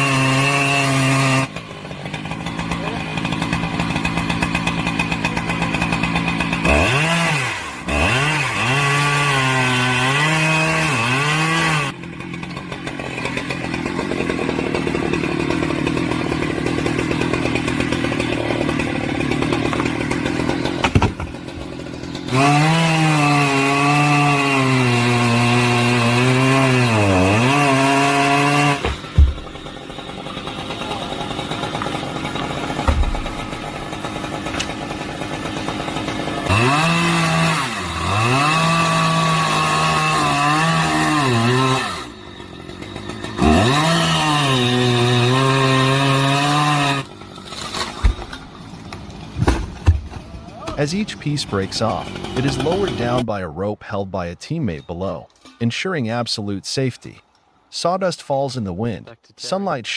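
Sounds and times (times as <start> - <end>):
chainsaw idling and revving: 0.0 - 53.3.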